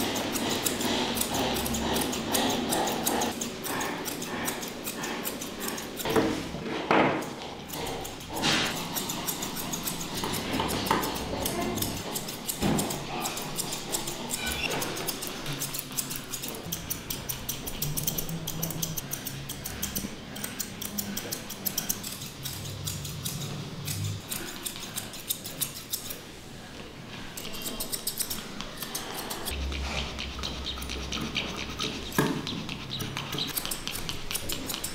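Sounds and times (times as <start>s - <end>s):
scissors snipping through fur: 0.0s - 6.4s, 7.1s - 26.2s, 27.3s - 34.9s.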